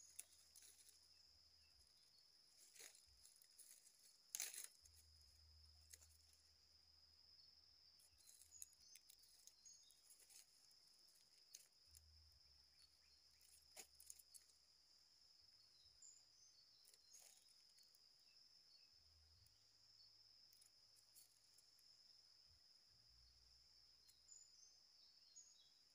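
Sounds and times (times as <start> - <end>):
faint insect chirring: 0.0 - 25.9.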